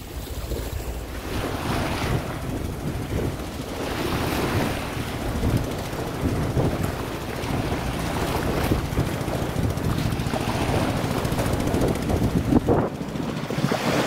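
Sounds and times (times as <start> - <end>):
waves slapping around boats: 0.0 - 14.0
wind buffeting microphone: 0.0 - 14.0.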